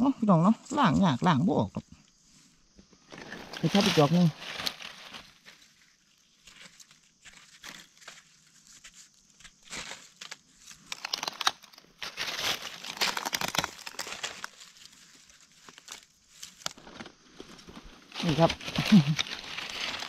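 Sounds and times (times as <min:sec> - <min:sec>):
dry leaves crackling and rustling: 0:03.1 - 0:20.0.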